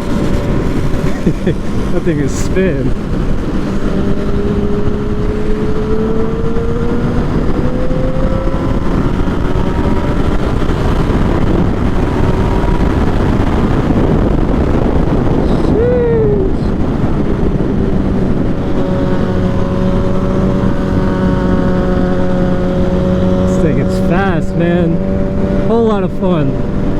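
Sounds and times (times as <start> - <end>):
motorcycle engine running: 0.0 - 26.9
wind noise on microphone: 0.0 - 26.9.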